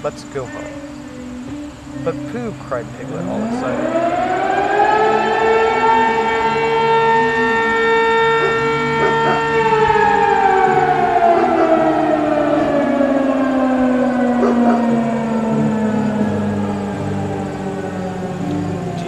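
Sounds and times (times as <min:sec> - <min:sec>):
siren winding down: 0:03.0 - 0:19.0.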